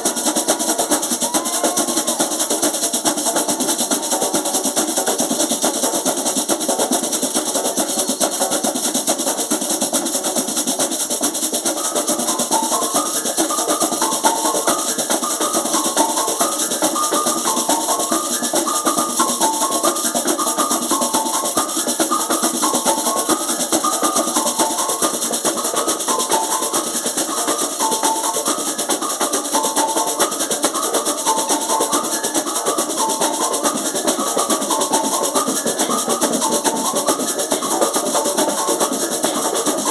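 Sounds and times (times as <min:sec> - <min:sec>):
drum ensemble rhythm: 0:00.0 - 0:39.9.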